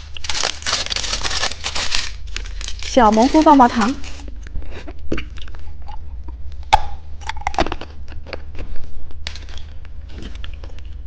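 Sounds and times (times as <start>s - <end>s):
plastic candy packaging crinkling: 0.0s - 6.0s, 7.2s - 11.0s.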